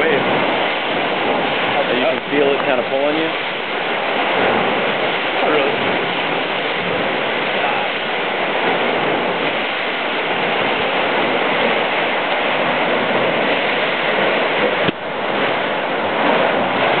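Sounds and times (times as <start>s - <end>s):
water rushing in rock chasm: 0.0s - 17.0s.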